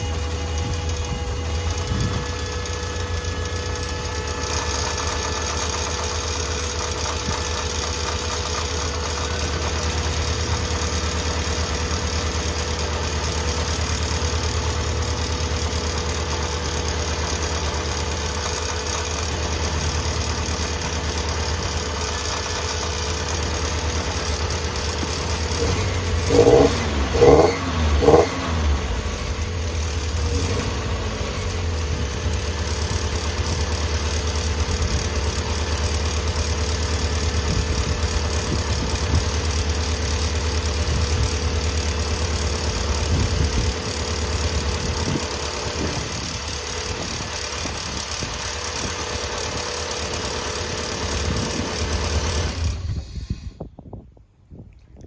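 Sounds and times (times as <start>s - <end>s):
engine idling: 0.0s - 53.8s.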